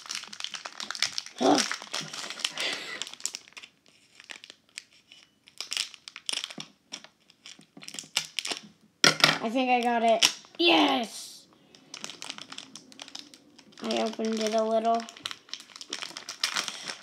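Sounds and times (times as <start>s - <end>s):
foil wrapper crinkling: 0.0s - 8.7s, 11.7s - 17.0s.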